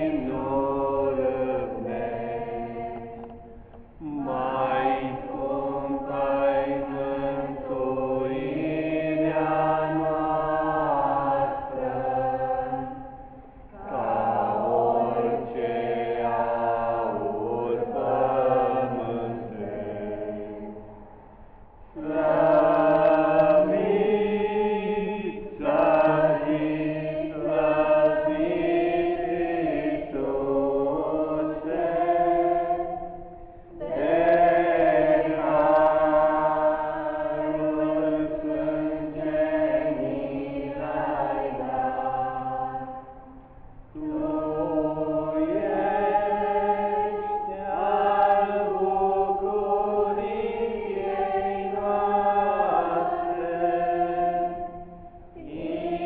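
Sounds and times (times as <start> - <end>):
women singing a hymn in unison: 0.0 - 21.2, 21.8 - 56.0.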